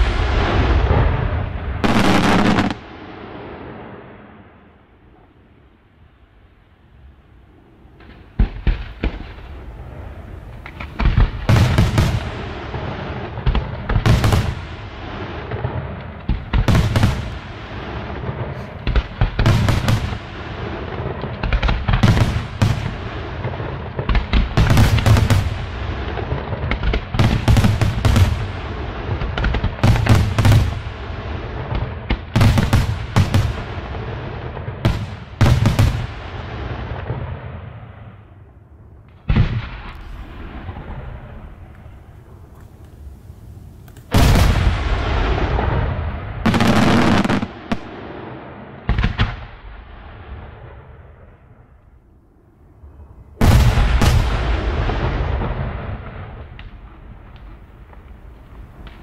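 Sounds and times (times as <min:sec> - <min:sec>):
firework shells booming: 0:00.0 - 0:05.7, 0:07.8 - 0:51.8, 0:53.3 - 0:59.0
firework crackle and rumble: 0:00.0 - 0:59.0.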